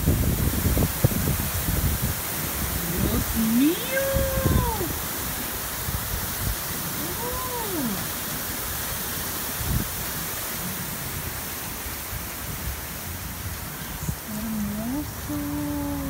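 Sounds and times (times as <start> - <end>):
wind rushing through trees: 0.0 - 16.0.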